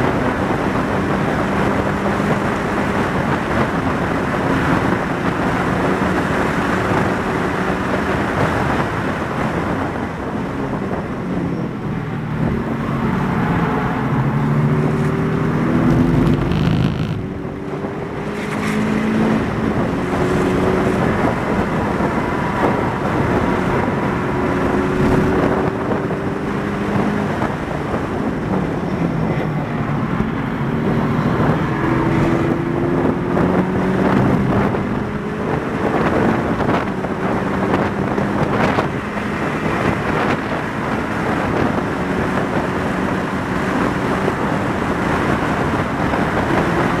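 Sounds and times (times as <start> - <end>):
car engine accelerating and upshifting: 0.0 - 47.0
wind and tyre noise: 0.0 - 47.0.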